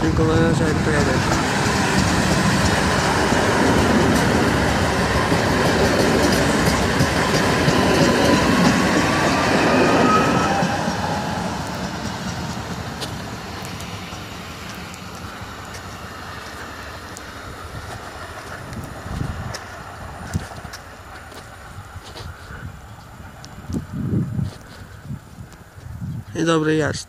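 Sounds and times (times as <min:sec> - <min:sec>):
train wheels clattering on rails: 0:00.0 - 0:22.2.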